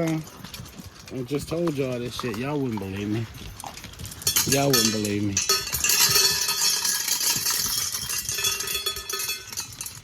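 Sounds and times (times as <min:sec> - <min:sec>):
pet food bowls clinking: 0:00.0 - 0:10.0.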